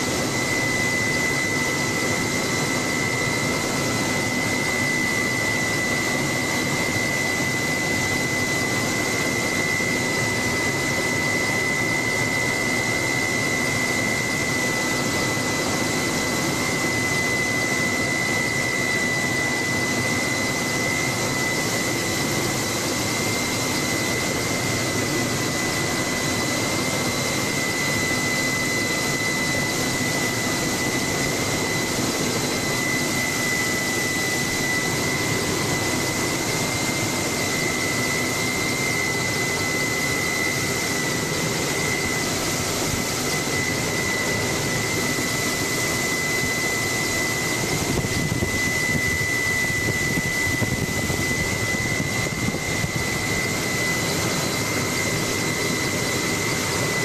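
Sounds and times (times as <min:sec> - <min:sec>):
helicopter engine and rotor: 0:00.0 - 0:57.0
high whine: 0:00.0 - 0:57.0.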